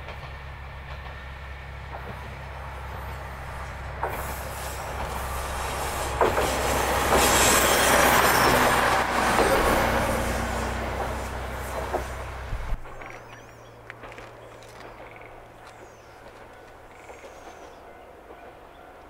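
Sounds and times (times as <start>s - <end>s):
diesel railcar engine drone: 0.0s - 19.0s
wheels clicking over rail joints: 0.0s - 19.0s.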